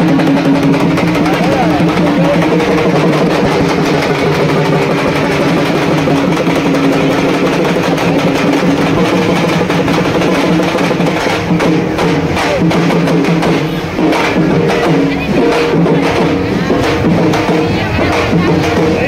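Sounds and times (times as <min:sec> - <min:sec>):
rapid drumming: 0:00.0 - 0:19.0.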